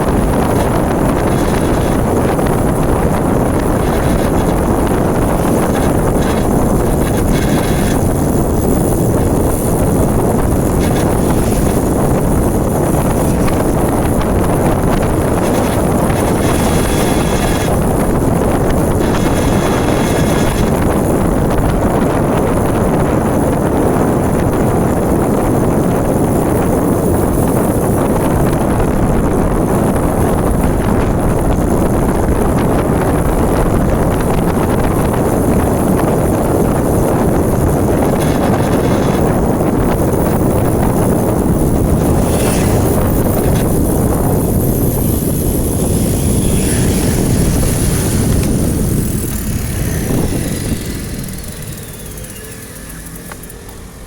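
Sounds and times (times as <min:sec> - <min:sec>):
road rumble: 0:00.0 - 0:54.0
wind buffeting microphone: 0:00.0 - 0:54.0.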